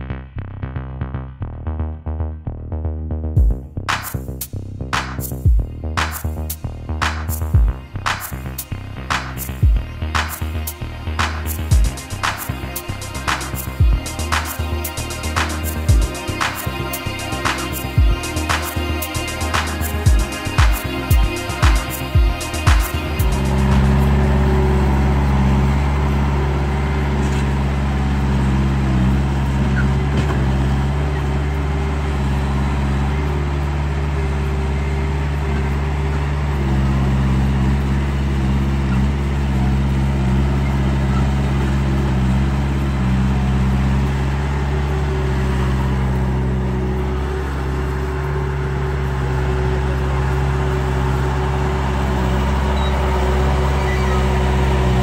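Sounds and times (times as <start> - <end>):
simulated diesel engine: 0.0 - 55.0.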